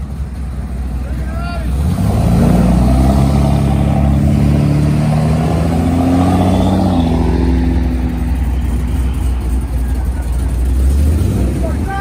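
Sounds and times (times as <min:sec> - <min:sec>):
truck engine accelerating hard: 0:00.0 - 0:12.0.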